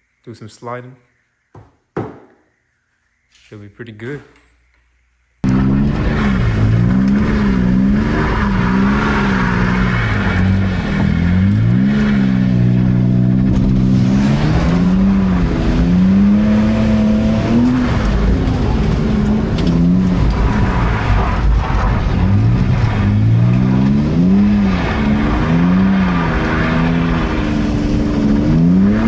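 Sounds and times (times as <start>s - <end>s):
car engine revving: 5.4s - 29.0s.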